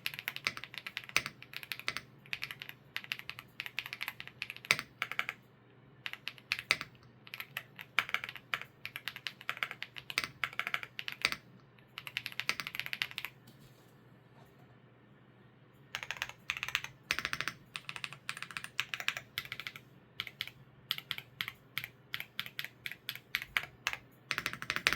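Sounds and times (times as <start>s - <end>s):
typing on mechanical keyboard: 0.0s - 5.4s, 6.0s - 13.4s, 16.0s - 24.9s.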